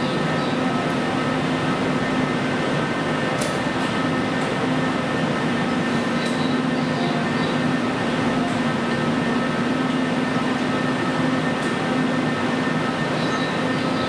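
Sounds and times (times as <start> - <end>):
standing train hum: 0.0 - 14.0.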